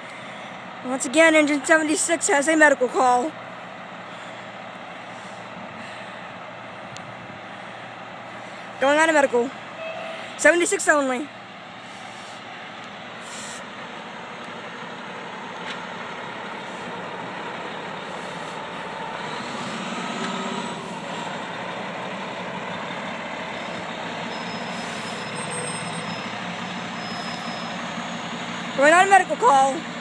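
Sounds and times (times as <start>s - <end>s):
fire engine running: 0.0s - 30.0s.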